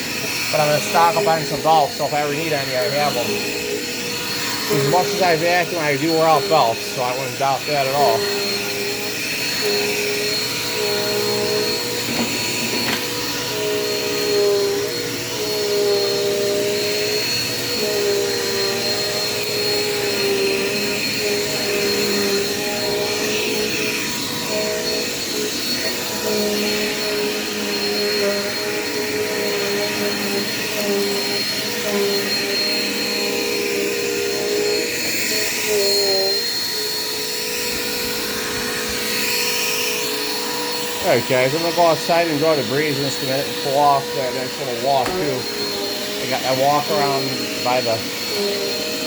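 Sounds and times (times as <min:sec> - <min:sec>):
upright vacuum cleaner running: 0:00.0 - 0:49.0.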